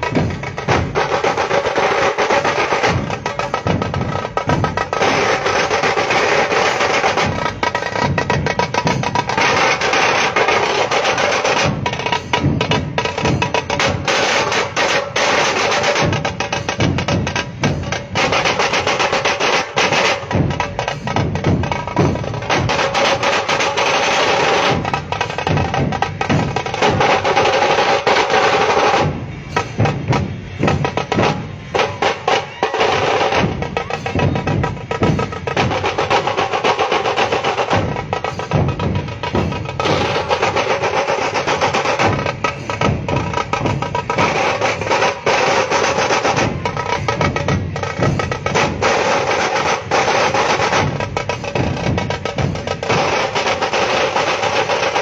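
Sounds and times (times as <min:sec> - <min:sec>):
fast loud drumming: 0:00.0 - 0:55.0.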